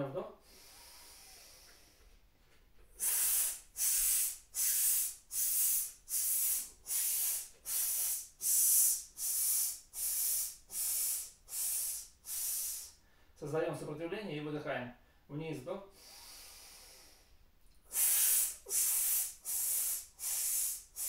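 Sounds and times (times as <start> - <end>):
man hissing exhalations: 0.4 - 2.1, 2.9 - 13.3, 15.9 - 21.0.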